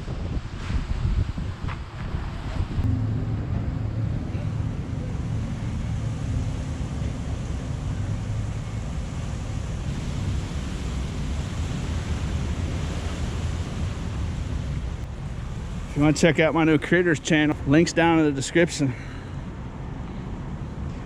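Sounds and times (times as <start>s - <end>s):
wind buffeting microphone: 0.0s - 18.6s
engine idling hum: 2.8s - 21.0s.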